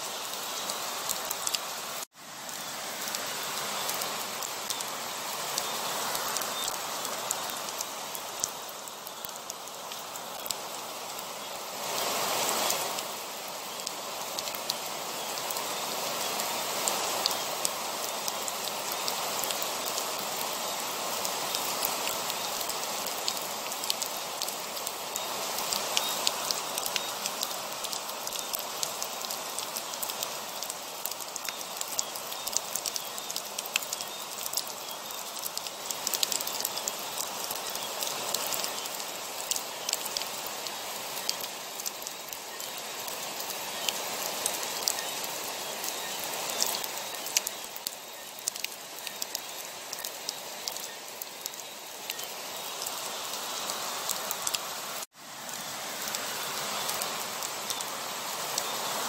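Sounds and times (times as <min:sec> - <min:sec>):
heavy rain: 0:00.0 - 0:59.0
raindrops ticking on a surface: 0:00.1 - 0:55.1, 0:56.0 - 0:59.0.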